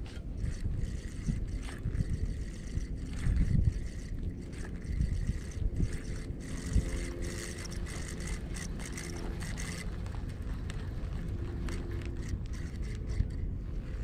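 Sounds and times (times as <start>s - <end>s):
fishing reel clicking whir: 0.0s - 14.0s
wind rumble on microphone: 0.0s - 14.0s.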